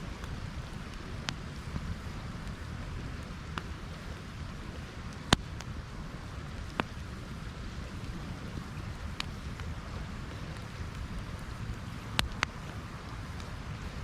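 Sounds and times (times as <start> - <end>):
campfire burning: 0.0 - 14.0
fire crackling pops: 0.0 - 14.0.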